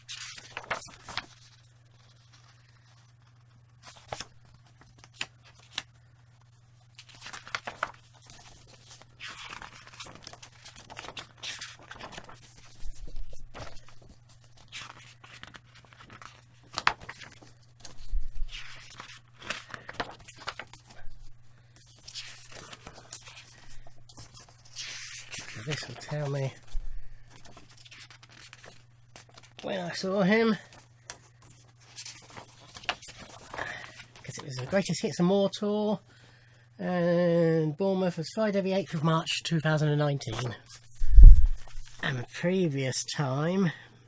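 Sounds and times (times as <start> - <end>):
paper pages rustling and turning: 0.0 - 34.9, 40.2 - 42.2.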